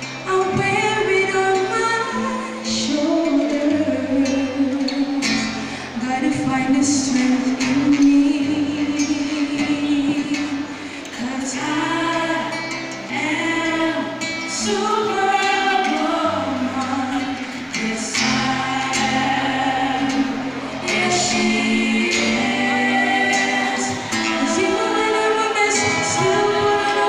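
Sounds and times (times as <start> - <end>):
girls singing into microphones: 0.0 - 27.0.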